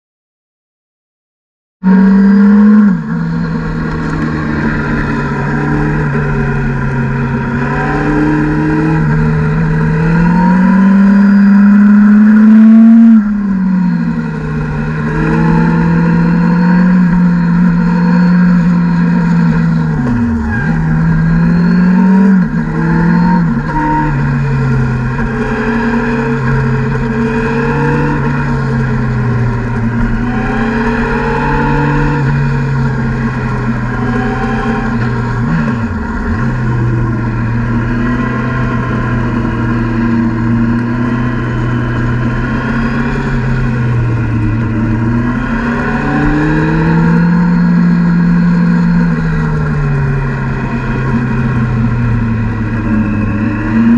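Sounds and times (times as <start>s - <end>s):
motorcycle engine revving: 1.8s - 53.9s.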